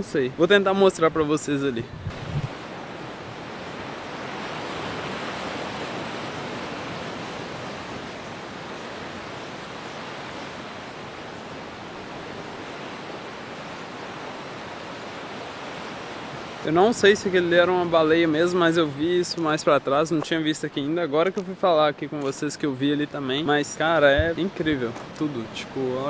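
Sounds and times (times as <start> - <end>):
ocean surf washing on shore: 0.0 - 26.0.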